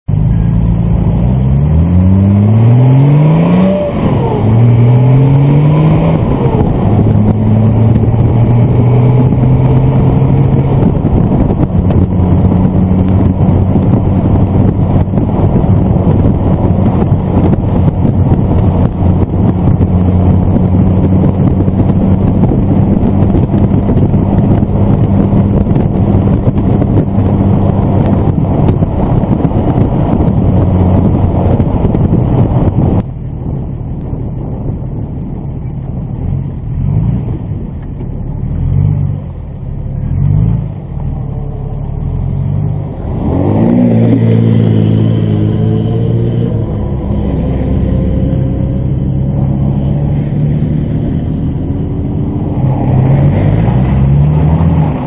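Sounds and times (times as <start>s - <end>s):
road and wind noise: 0.0s - 55.0s
engine accelerating through gears: 0.1s - 55.0s.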